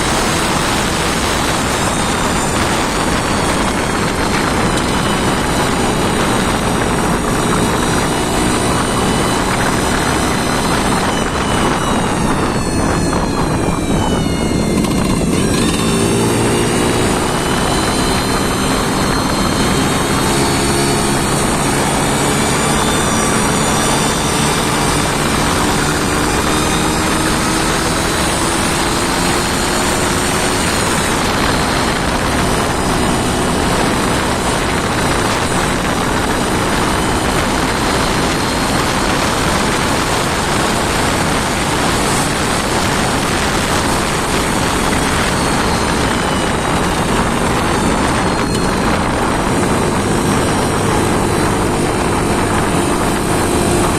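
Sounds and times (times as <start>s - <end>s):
engine droning: 0.0s - 53.9s.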